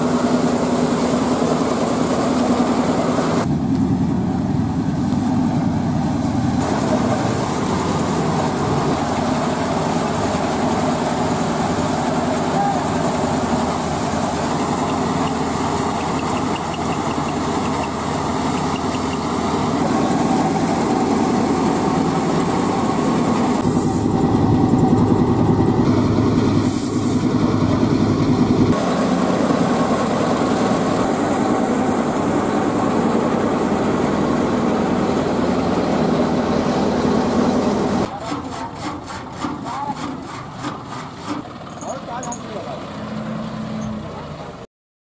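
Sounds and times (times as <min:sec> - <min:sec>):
thresher drum and blower: 0:00.0 - 0:41.7
diesel tractor engine under load: 0:00.0 - 0:44.6.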